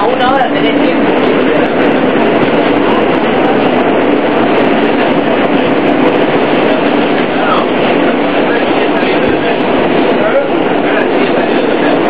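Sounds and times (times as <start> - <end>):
subway car wheels on rails: 0.0 - 12.0.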